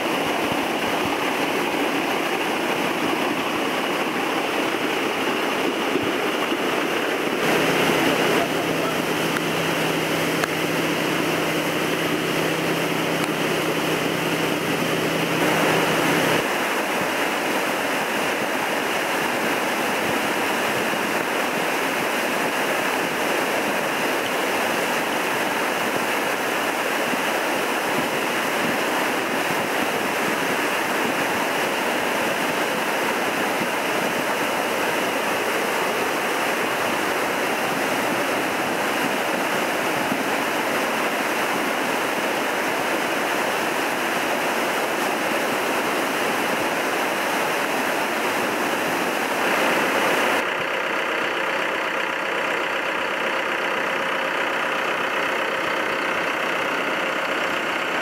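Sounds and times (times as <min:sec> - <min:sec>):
whitewater rushing roar: 0:00.0 - 0:58.0.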